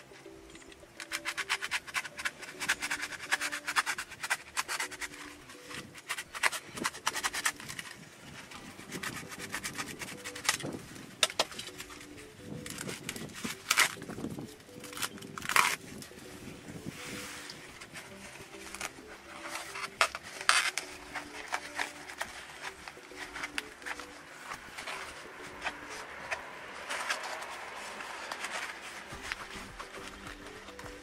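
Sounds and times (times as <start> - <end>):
utility knife cutting foam: 1.0 - 15.8, 17.4 - 31.0
foam rustling: 1.4 - 31.0.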